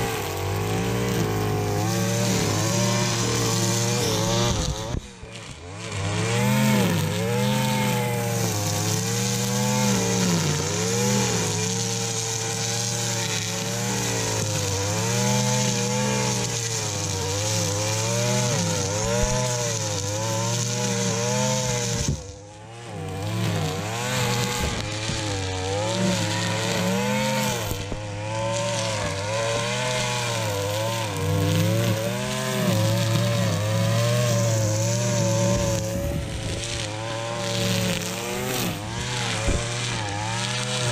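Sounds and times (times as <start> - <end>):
string trimmer engine running: 0.0 - 40.9
trimmer line cutting grass: 0.0 - 40.9.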